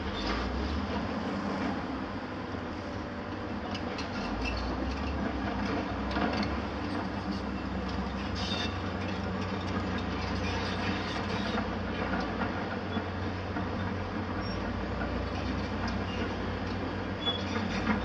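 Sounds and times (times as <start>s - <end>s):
heavy diesel machinery rumbling: 0.0s - 18.0s.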